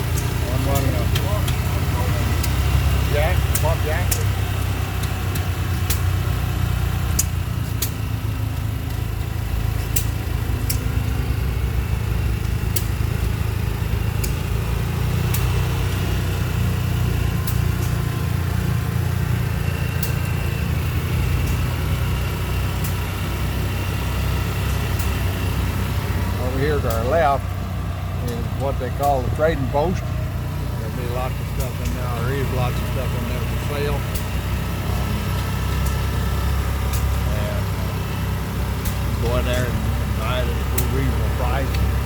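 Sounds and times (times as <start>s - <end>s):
sharp clicks and ticks: 0.0s - 42.0s
small engine rumbling: 0.0s - 42.0s.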